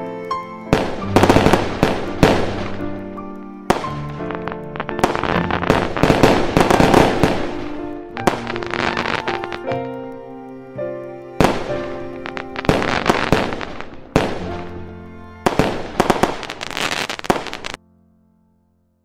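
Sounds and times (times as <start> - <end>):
music with held notes: 0.0 - 18.7
fireworks bursting and crackling: 0.4 - 10.6, 11.4 - 17.8.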